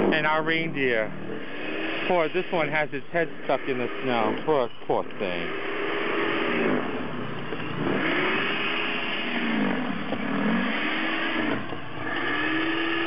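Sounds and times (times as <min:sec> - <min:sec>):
snow blower motor whining: 0:00.0 - 0:13.0.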